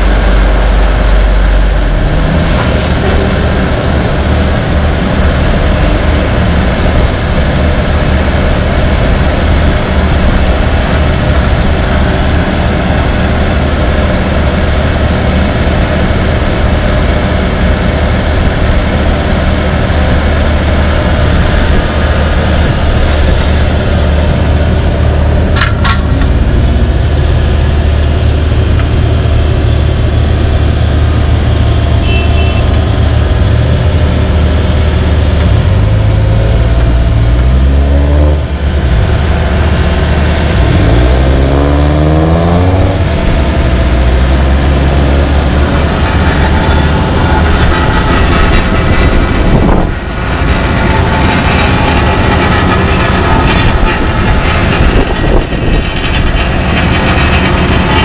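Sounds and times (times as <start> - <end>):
diesel engine droning: 0.0 - 58.0
engines revving: 0.0 - 58.0.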